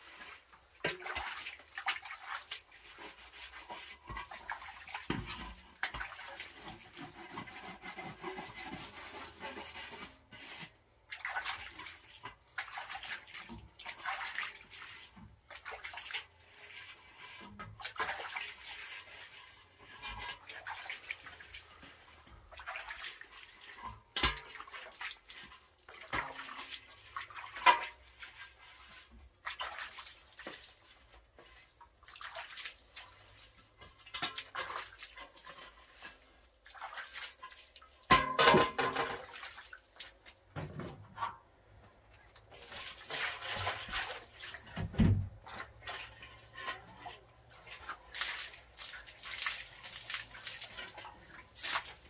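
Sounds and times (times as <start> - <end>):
hand sloshing wet mix: 0.0 - 7.9, 9.0 - 38.0, 42.2 - 52.0.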